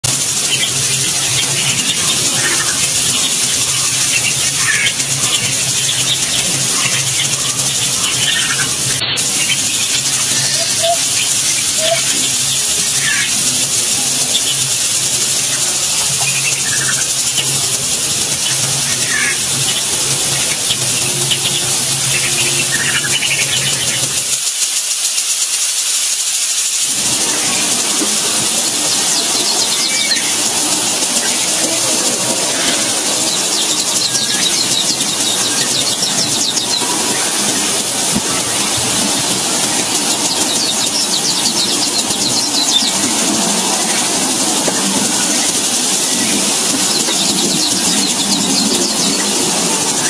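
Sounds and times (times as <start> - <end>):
birds chirping rapidly: 0.0 - 50.0
loud steady hiss: 0.0 - 50.0.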